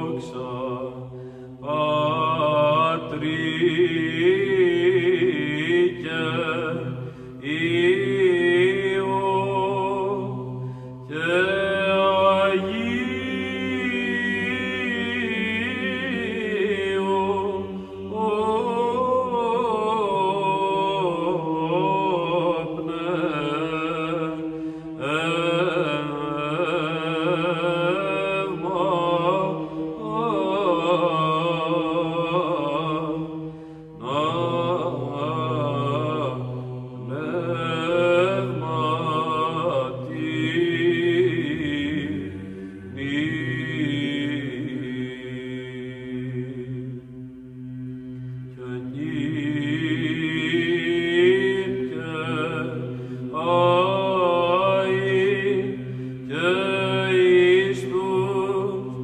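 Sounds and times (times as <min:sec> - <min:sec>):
chanted vocal melody: 0:00.0 - 0:59.0
low drone: 0:00.0 - 0:59.0.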